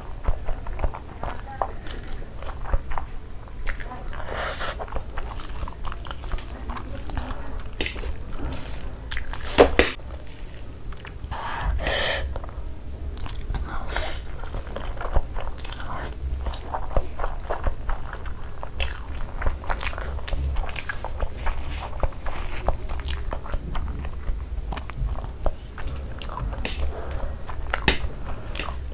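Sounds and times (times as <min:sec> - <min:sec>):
wet chewing and slurping: 0:00.0 - 0:28.9.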